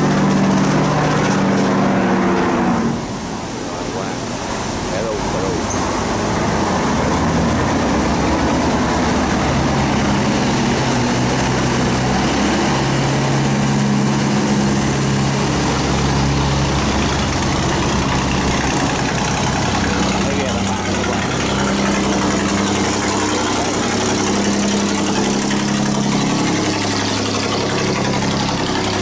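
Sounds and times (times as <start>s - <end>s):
boat engines humming: 0.0s - 29.0s
water rushing through sluice gate: 0.0s - 29.0s.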